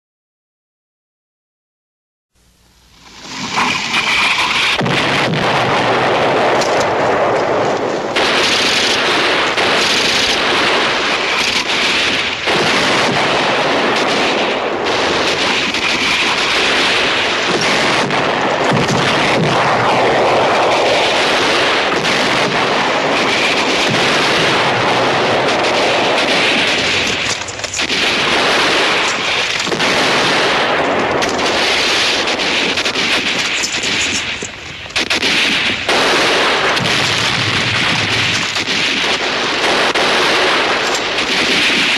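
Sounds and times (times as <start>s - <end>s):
shell explosions: 2.6s - 41.9s
machine-gun and rifle fire: 3.3s - 41.9s.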